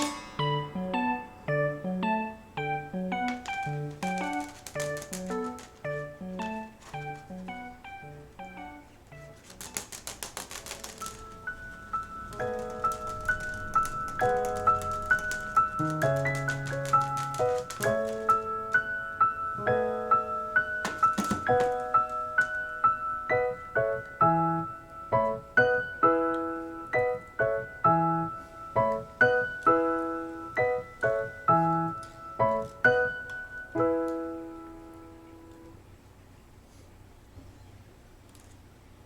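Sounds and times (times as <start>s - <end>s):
gentle piano melody: 0.0s - 36.4s.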